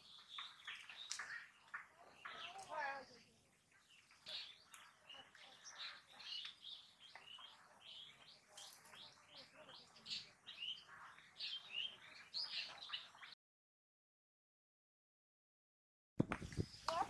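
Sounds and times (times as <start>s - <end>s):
small birds chirping: 0.0s - 13.4s, 16.2s - 17.0s.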